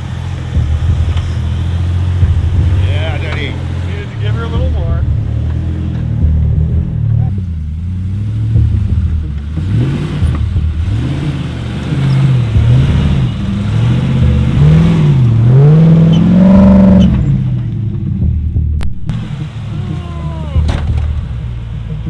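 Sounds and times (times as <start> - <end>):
engine revving under load: 0.0 - 22.0.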